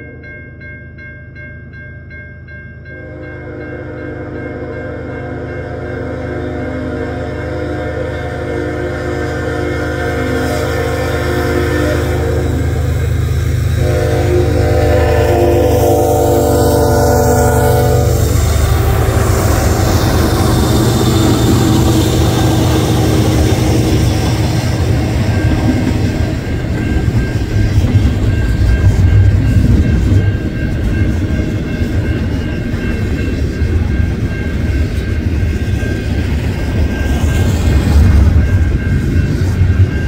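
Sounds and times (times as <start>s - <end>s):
freight train rumbling past: 2.1s - 40.0s.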